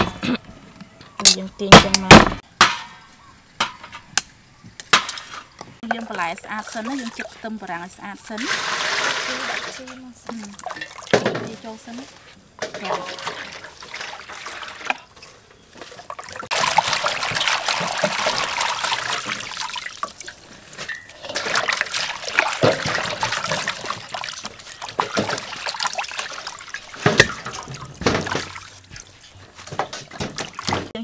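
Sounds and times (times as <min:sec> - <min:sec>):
water splashing and swishing: 0:05.0 - 0:31.0.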